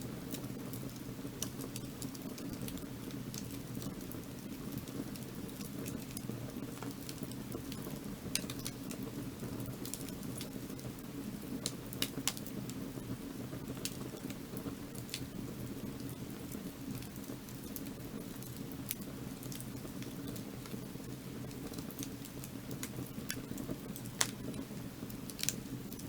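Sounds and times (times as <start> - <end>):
firewood crackling and popping: 0.0 - 26.0.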